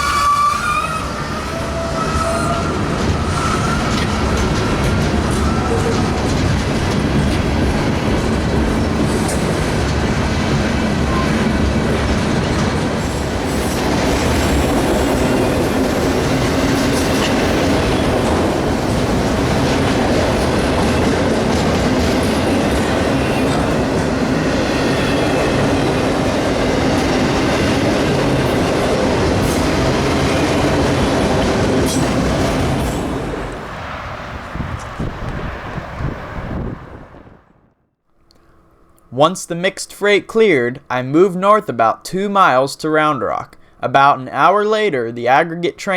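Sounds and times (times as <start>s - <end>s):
freight train rolling past: 0.0s - 37.8s.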